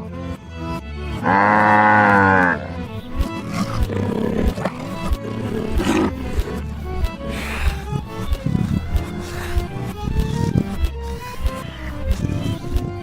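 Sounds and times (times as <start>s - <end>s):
cartoon background music: 0.0s - 13.0s
drawn-out animal call: 1.2s - 13.0s.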